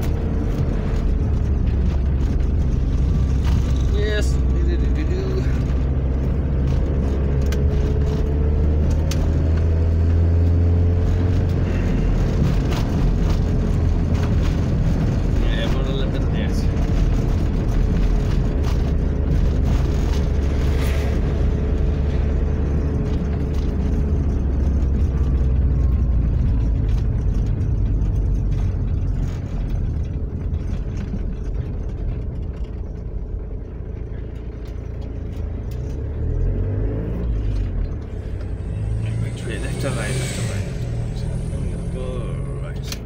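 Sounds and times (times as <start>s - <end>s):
vehicle engine and road rumble: 0.0s - 43.0s.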